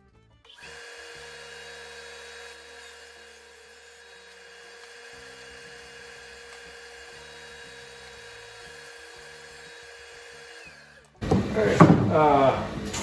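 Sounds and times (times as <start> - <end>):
jointer motor whining: 0.4 - 13.0.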